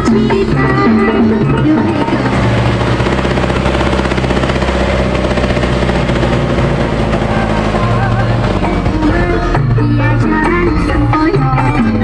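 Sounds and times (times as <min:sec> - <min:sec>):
music: 0:00.0 - 0:05.8, 0:06.6 - 0:12.0
engine with knocking pulse: 0:00.0 - 0:12.0.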